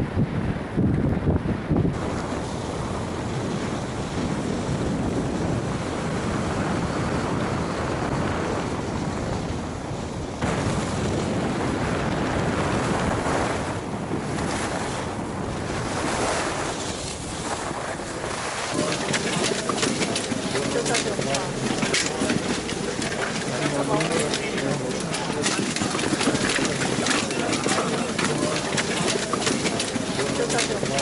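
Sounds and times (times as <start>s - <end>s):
wind on microphone: 0.0s - 31.0s.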